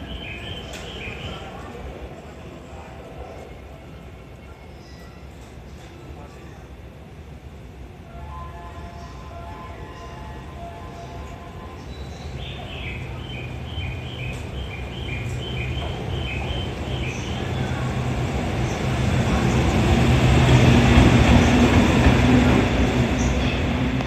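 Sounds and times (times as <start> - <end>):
electric locomotive passing: 0.0 - 24.0.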